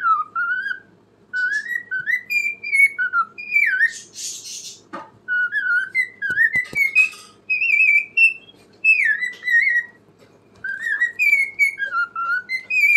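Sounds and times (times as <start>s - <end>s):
cockatiel whistling: 0.0s - 10.0s, 10.6s - 12.9s.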